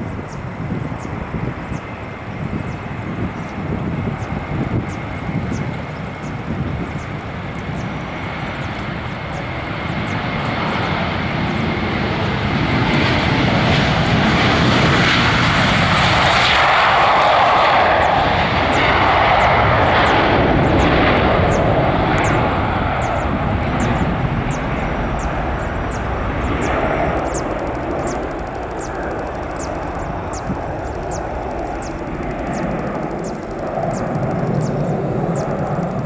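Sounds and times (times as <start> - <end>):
jet engines at take-off thrust: 0.0 - 36.0
steady whine: 4.6 - 36.0.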